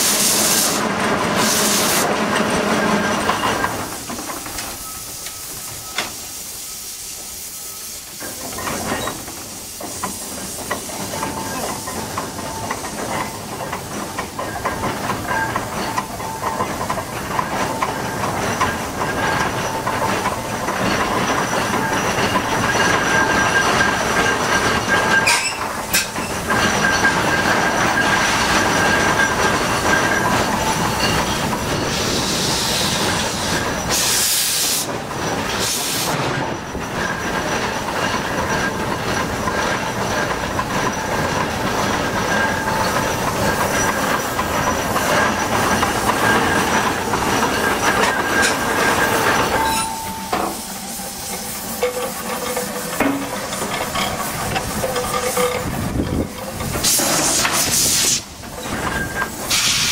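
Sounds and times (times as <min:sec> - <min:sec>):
steam hissing bursts: 0:00.0 - 0:02.1, 0:03.6 - 0:14.4, 0:22.3 - 0:36.5, 0:38.6 - 0:59.9
steam engine mechanical clatter: 0:00.0 - 0:59.9.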